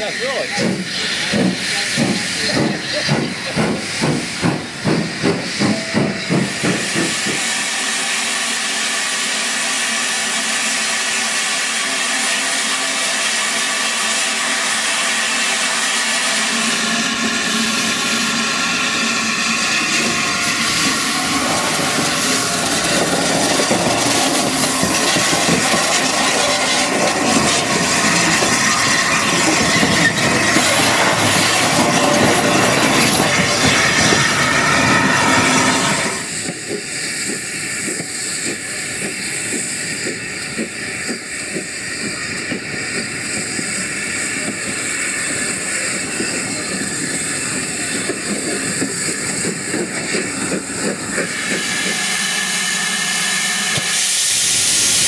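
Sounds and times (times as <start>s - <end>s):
steam hissing: 0.0s - 55.0s
steam locomotive exhaust chuffing: 0.0s - 55.0s.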